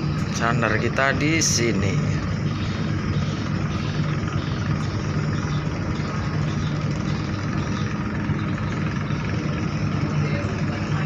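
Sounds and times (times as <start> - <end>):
ship engine low drone: 0.0 - 11.0.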